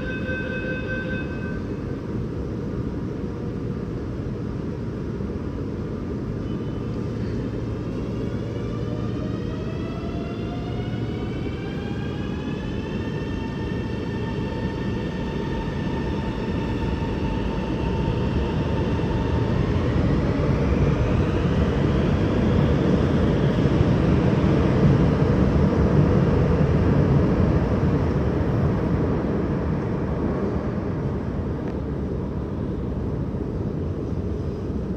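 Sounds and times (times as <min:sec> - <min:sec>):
rumble of wheels on rail: 0:00.0 - 0:34.9.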